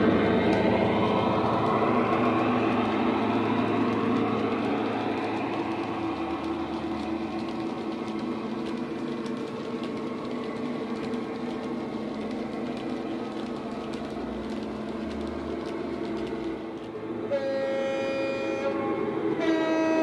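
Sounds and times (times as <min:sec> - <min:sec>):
model wheels clicking on track: 0:00.0 - 0:17.0
model locomotive engine sound: 0:00.0 - 0:20.0.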